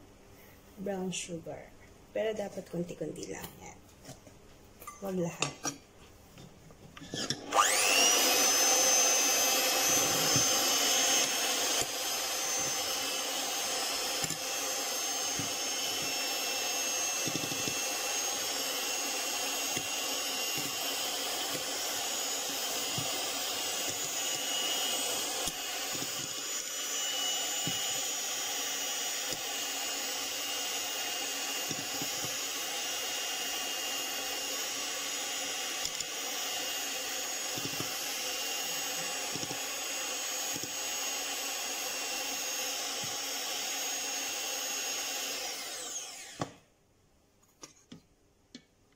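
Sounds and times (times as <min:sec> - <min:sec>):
electric hand mixer whining: 0:07.1 - 0:46.6.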